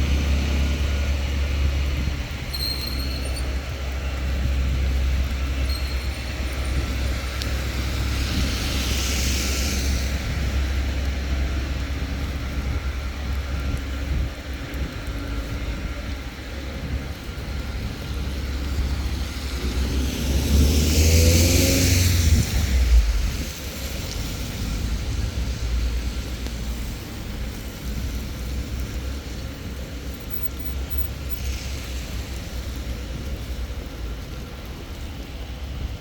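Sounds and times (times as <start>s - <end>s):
car passing on wet road: 0.0s - 2.5s, 3.4s - 36.0s.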